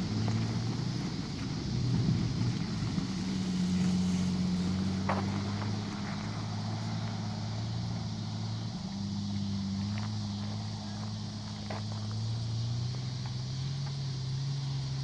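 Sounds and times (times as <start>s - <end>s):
vehicle engine idling low: 0.0s - 15.0s.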